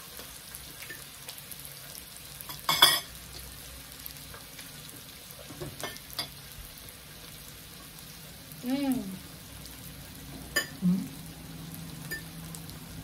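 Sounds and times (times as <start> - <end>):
pork sizzling on a grill: 0.0 - 13.0.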